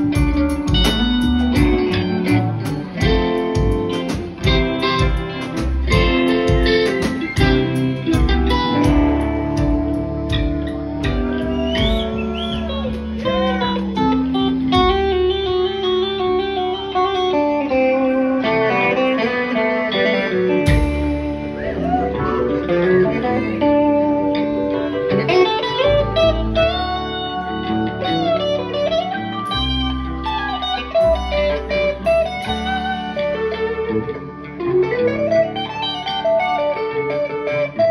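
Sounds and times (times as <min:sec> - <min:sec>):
electric guitar lead lines: 0:00.0 - 0:37.9
live band instrumental jam: 0:00.0 - 0:37.9.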